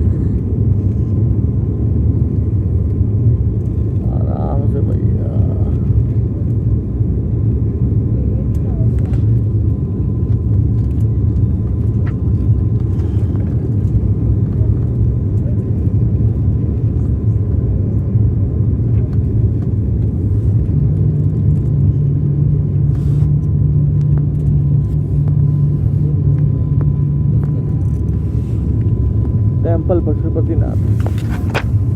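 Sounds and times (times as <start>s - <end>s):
car engine and road rumble: 0.0s - 31.9s.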